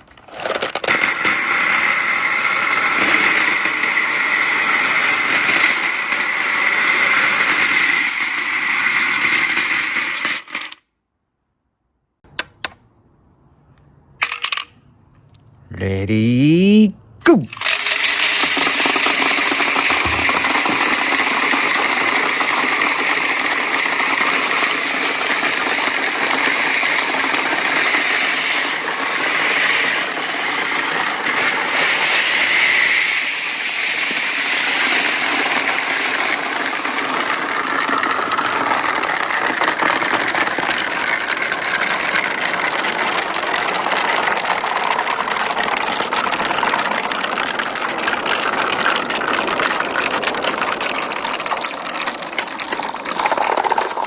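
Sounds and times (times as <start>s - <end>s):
marbles rattling down a track: 0.1s - 10.8s, 17.5s - 54.0s.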